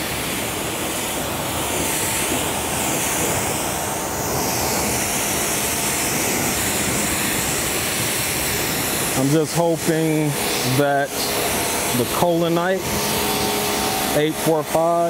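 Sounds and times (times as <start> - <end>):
hose nozzle spraying water: 1.5 - 15.0.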